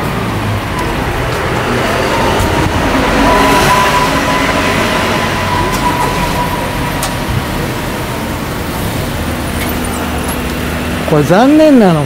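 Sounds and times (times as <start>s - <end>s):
thin steady whine: 0.0s - 11.4s
cars driving past: 0.0s - 12.0s
traffic rumble: 0.0s - 12.0s.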